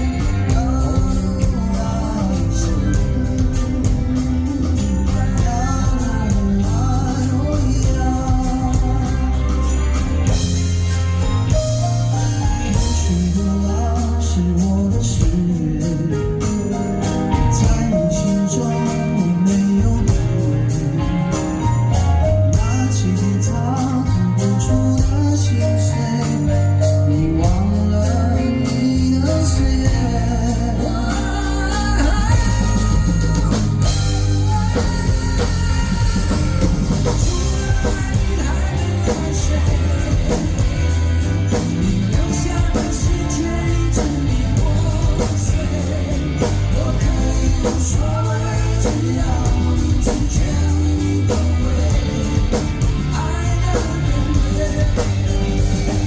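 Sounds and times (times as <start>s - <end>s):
bass and guitar notes: 0.0s - 56.0s
drum kit beat: 0.0s - 56.0s.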